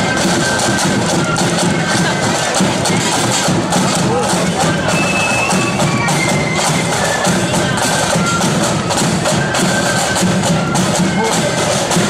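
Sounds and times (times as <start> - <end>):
bass drum beat: 0.0 - 12.0
flute melody: 0.0 - 12.0
snare drum strokes: 0.0 - 12.0.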